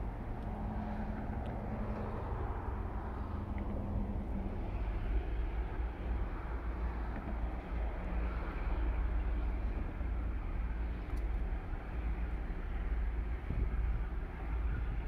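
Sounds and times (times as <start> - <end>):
distant diesel locomotive rumble: 0.0 - 15.0.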